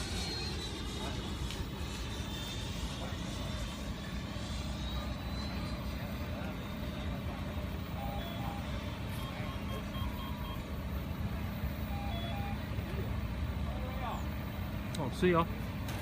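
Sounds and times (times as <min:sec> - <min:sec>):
electric ducted fan whine: 0:00.0 - 0:16.0.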